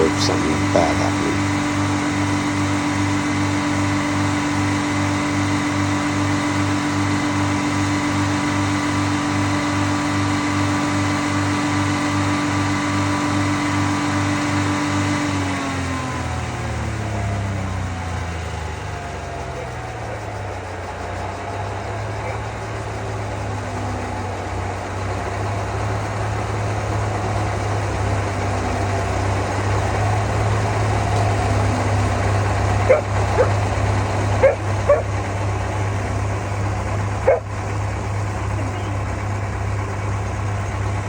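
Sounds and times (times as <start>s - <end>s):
engine idling: 0.0s - 41.0s.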